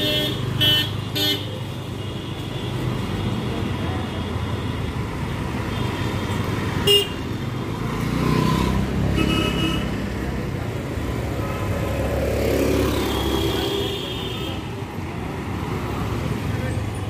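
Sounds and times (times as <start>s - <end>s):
cars and scooters passing: 0.0s - 17.0s.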